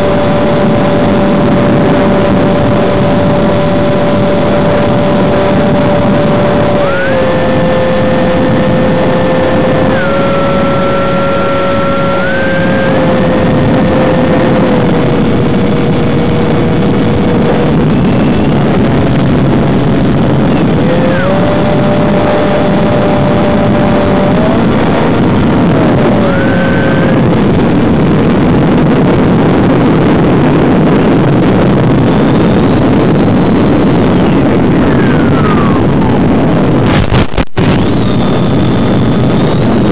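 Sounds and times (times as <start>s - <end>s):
electric motor whine: 0.0s - 39.9s
rush of air: 0.0s - 39.9s.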